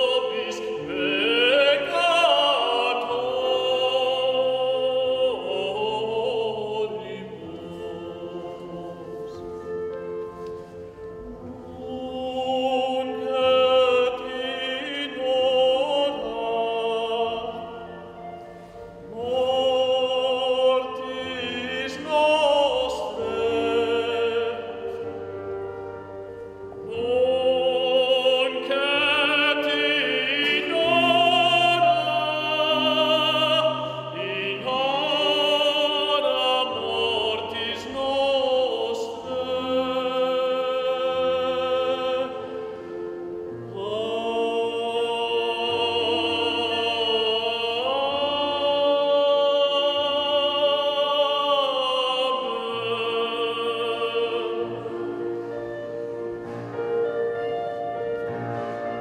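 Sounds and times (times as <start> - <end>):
man singing operatically: 0.0 - 9.6, 11.4 - 25.1, 26.8 - 56.1.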